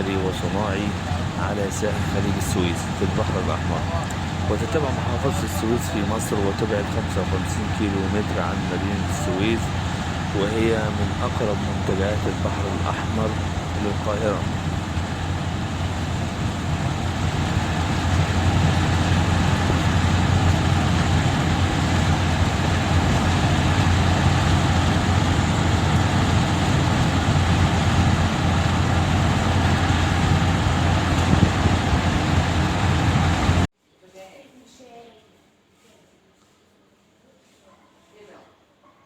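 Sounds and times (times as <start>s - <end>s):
low vehicle hum: 0.0s - 33.7s
road and wind noise: 0.0s - 33.7s.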